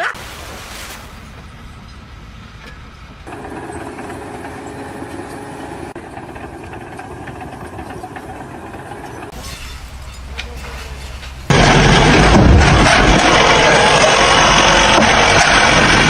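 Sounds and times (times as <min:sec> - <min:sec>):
machine rumbling: 0:00.2 - 0:16.0.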